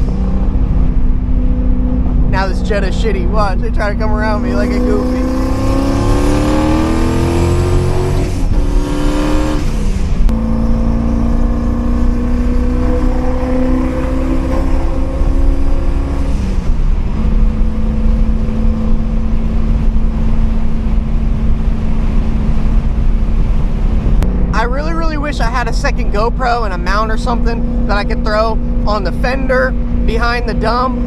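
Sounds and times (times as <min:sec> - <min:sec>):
car engine shifting gears: 0:00.0 - 0:31.0.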